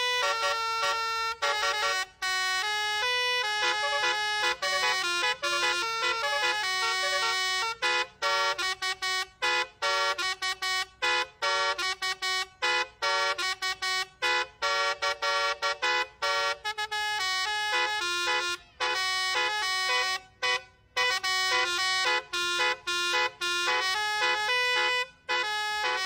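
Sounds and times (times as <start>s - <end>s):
bus musical horn playing tune: 0.0s - 26.0s.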